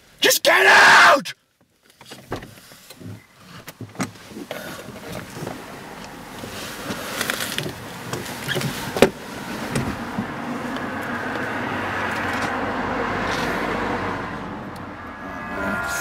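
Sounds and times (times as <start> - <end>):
street noise: 0.0 - 1.4, 2.9 - 16.0.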